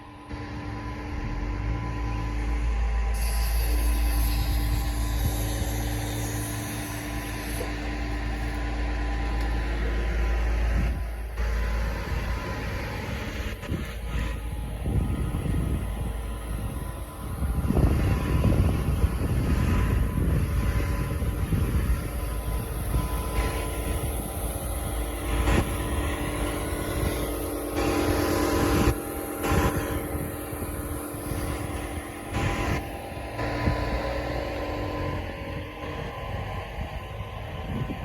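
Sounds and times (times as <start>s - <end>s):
air compressor running: 0.0s - 38.0s.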